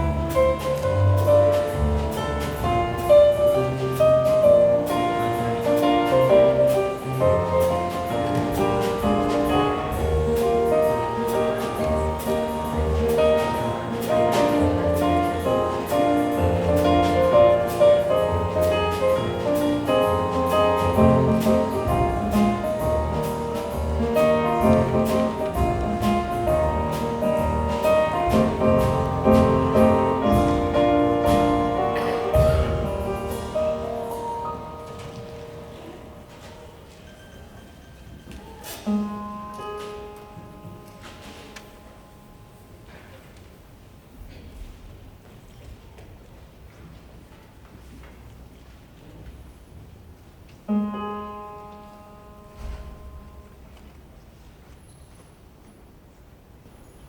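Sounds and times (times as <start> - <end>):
piano: 0.0 - 57.0.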